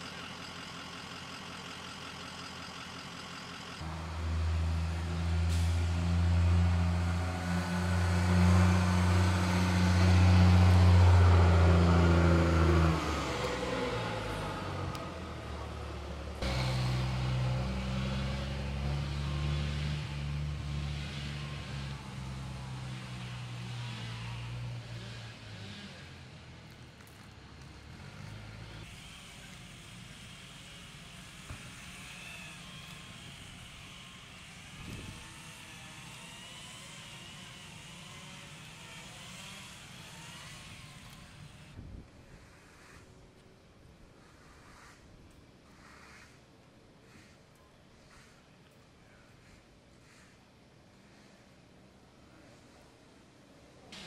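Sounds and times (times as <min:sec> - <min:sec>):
truck engine low hum: 0:00.0 - 0:44.0.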